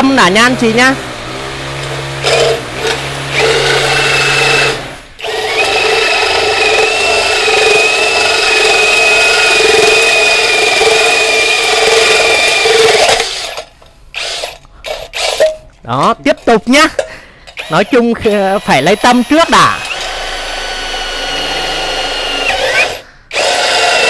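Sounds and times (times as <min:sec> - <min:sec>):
cordless drill whining: 0:00.0 - 0:15.6, 0:17.5 - 0:24.0
hole saw cutting steel: 0:00.0 - 0:15.6, 0:17.6 - 0:24.0.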